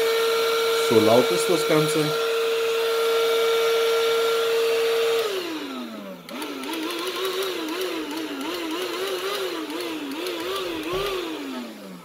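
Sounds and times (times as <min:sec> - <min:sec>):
handheld vacuum motor whine: 0:00.0 - 0:12.0.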